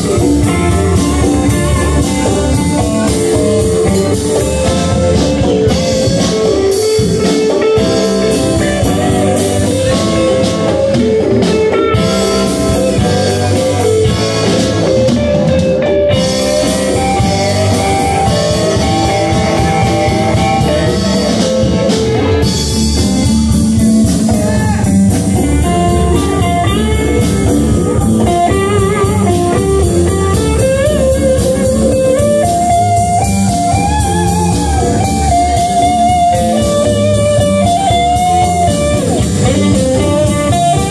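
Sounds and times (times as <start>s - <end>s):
lead guitar bending notes: 0.0s - 40.9s
live blues-rock band playing: 0.0s - 40.9s.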